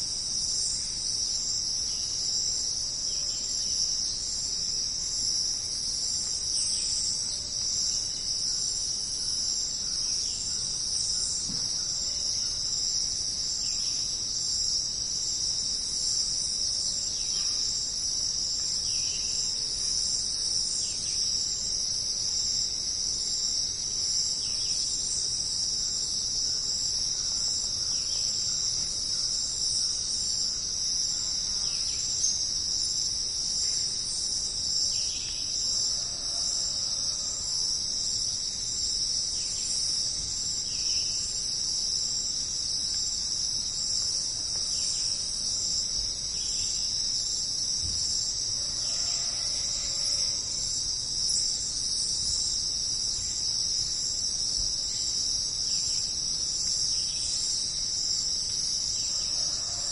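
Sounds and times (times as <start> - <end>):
insect chorus high-pitched drone: 0.0 - 59.9.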